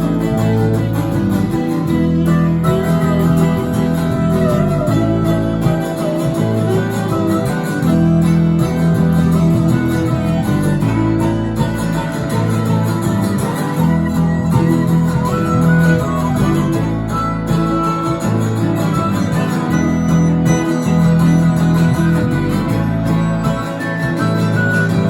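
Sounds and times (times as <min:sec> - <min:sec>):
string-band music with guitar and fiddle: 0:00.0 - 0:25.0.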